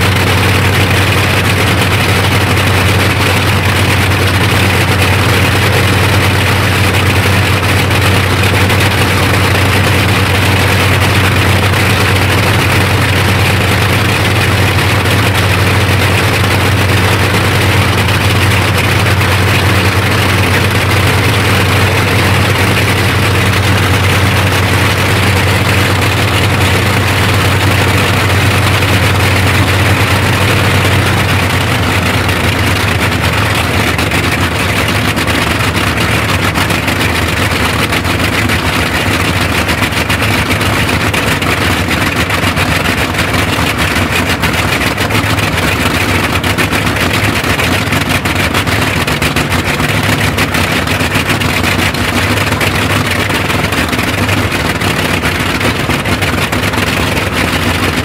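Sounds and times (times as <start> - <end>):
radial aero engine running: 0.0 - 58.0.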